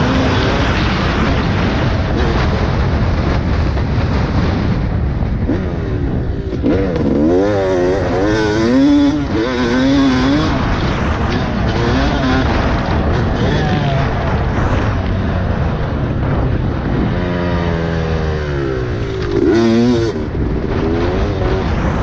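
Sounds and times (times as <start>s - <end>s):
dirt bike engine revving: 0.0s - 4.8s, 5.4s - 22.0s
wind noise: 0.0s - 22.0s.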